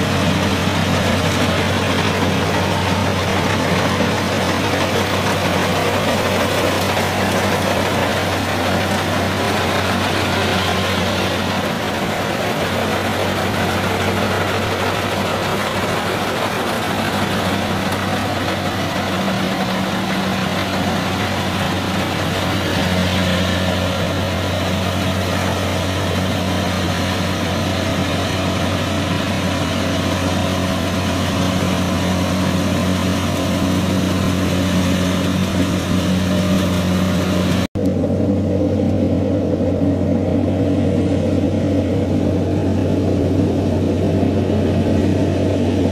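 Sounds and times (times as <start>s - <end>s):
machine rushing and rattling: 0.0s - 39.6s
combine harvester engine hum: 0.0s - 45.9s.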